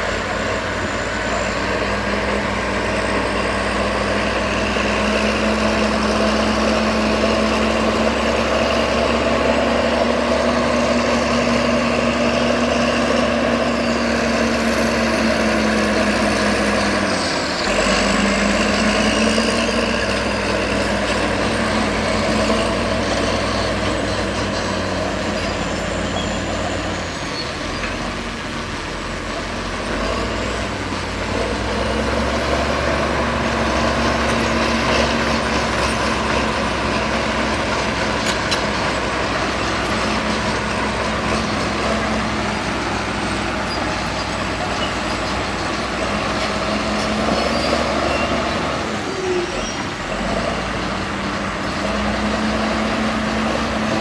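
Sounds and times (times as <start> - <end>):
earthmoving machinery engine: 0.0 - 54.0.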